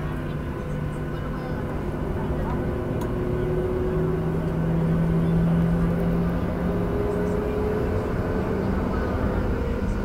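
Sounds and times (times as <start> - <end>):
jet engine cabin rumble: 0.0 - 10.0
rising engine whine: 0.0 - 10.0.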